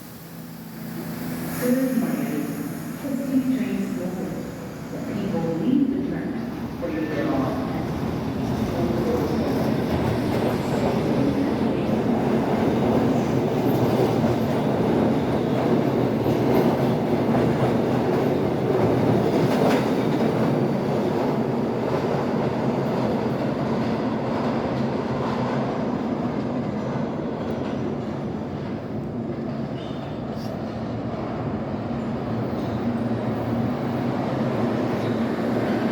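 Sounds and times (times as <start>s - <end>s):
subway train rail noise: 0.0s - 35.9s.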